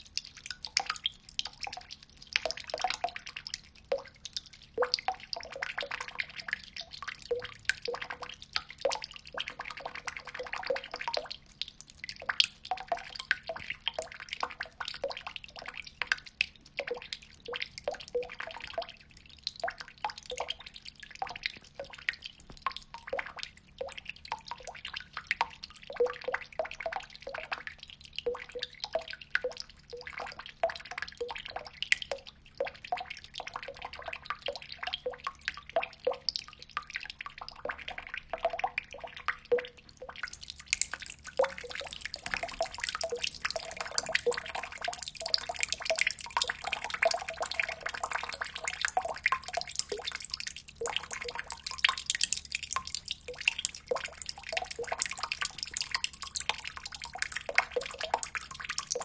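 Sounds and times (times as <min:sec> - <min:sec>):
water drops plinking into pond: 0:00.0 - 0:59.0.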